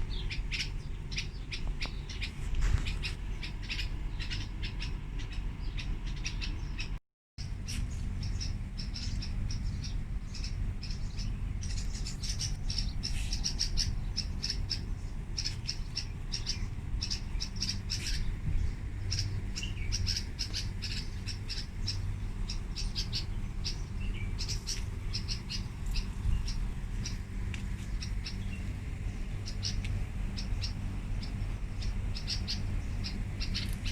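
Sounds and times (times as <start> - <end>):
small birds chirping: 0.0 - 33.9
steady low hum: 0.0 - 33.9.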